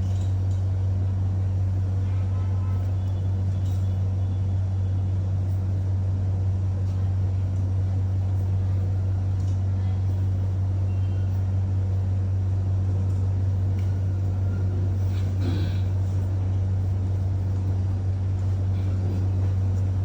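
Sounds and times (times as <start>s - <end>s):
low machinery hum: 0.0s - 20.0s.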